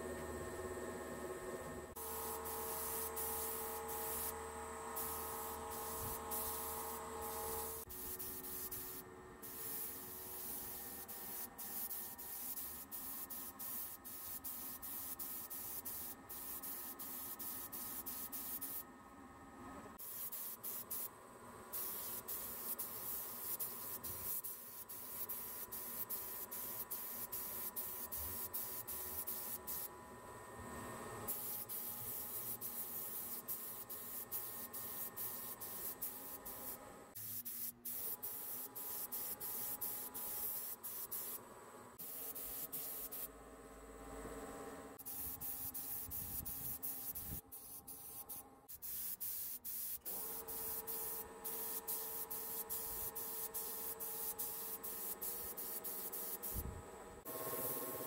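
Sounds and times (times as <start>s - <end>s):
paint spray gun hissing: 1.9s - 4.4s, 5.0s - 18.8s, 20.0s - 21.1s, 21.7s - 29.9s, 31.3s - 41.4s, 42.0s - 43.3s, 45.0s - 58.0s.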